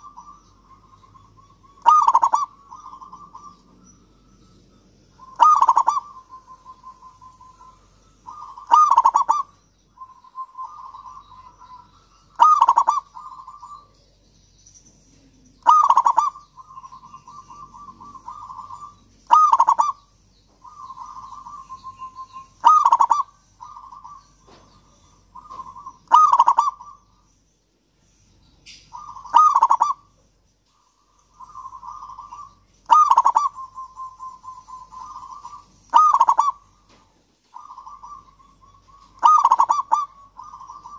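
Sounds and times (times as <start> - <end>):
dove cooing: 0.0 - 4.2, 5.2 - 14.0, 15.1 - 27.2, 28.9 - 40.9.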